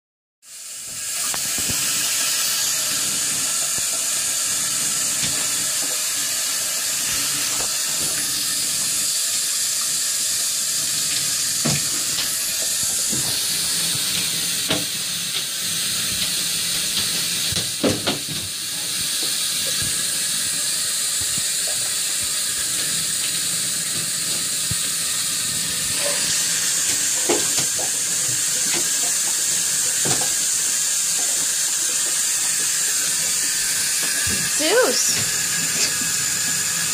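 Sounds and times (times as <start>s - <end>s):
faucet running into bathtub: 0.5s - 36.9s.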